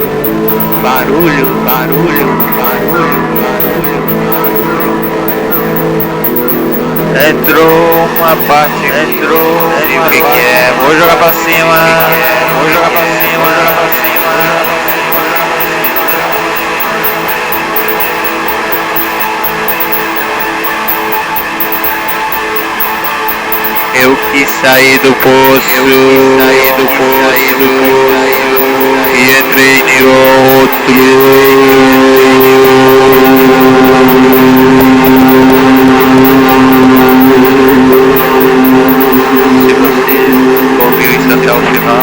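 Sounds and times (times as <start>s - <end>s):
harsh buzzing drone: 0.0s - 42.0s
strummed guitar music: 0.0s - 42.0s.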